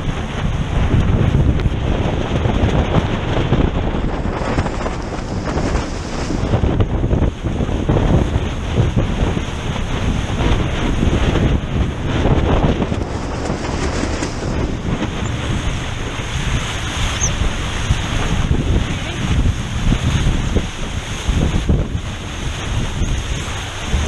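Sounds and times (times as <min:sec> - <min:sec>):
water rushing off a hull: 0:00.0 - 0:24.0
wind buffeting microphone: 0:00.0 - 0:24.0.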